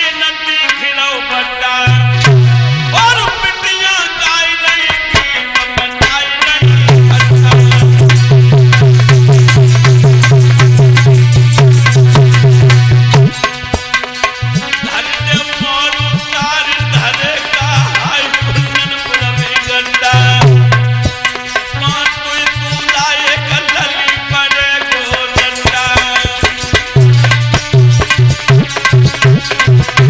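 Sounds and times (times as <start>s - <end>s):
ornamented instrumental melody: 0.3s - 30.0s
hand drum beating: 4.8s - 30.0s.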